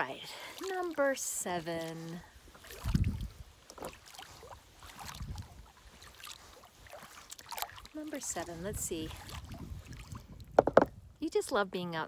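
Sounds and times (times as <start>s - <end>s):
kayak paddle splashing water: 0.0s - 10.9s.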